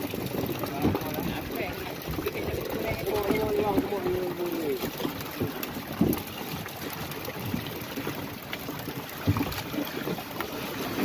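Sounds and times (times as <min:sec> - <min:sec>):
water sloshing around boat hull: 0:00.0 - 0:11.0.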